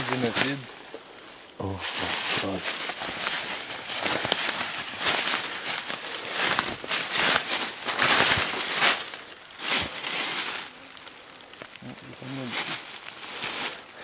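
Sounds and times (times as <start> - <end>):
brush rustling: 0.0 - 14.0
footsteps crunching through dry leaves: 0.0 - 14.0.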